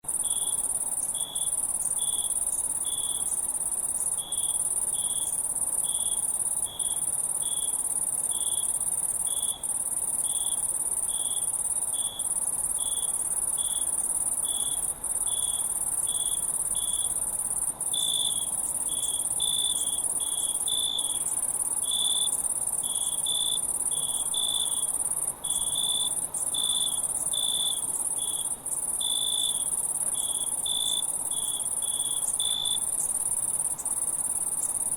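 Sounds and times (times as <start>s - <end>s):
nearer cricket chirping rhythmically: 0.0s - 34.9s
crickets chirping chorus: 0.1s - 34.9s.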